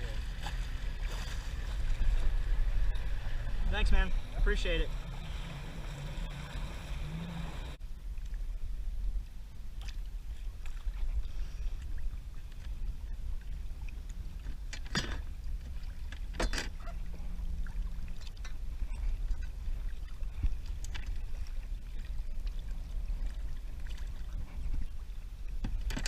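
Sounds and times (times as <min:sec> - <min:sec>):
water moving around a kayak: 0:00.0 - 0:26.0.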